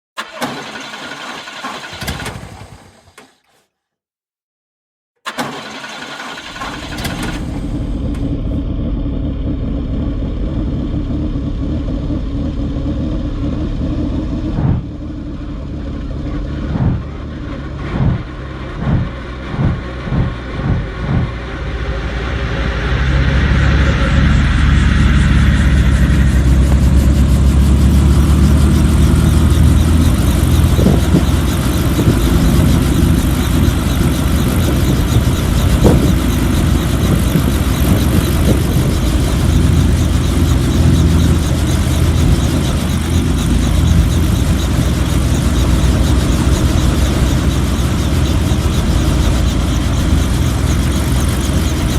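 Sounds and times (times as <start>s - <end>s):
helicopter piston engine starting: 0.2s - 3.5s, 5.2s - 8.6s, 16.5s - 51.9s.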